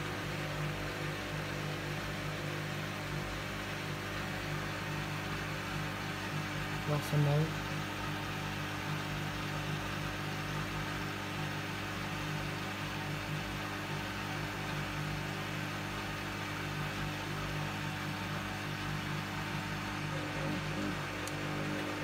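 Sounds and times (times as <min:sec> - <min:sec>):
washing machine motor humming: 0:00.0 - 0:22.0.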